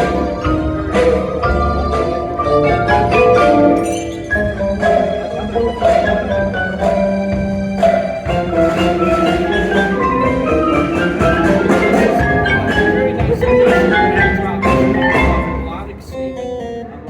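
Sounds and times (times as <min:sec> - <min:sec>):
marimba playing running notes: 0:00.0 - 0:16.0
wind instruments holding notes: 0:00.0 - 0:16.2.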